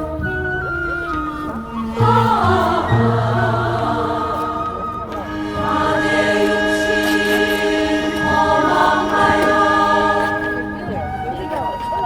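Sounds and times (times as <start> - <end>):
group of voices chanting: 1.9 - 11.8.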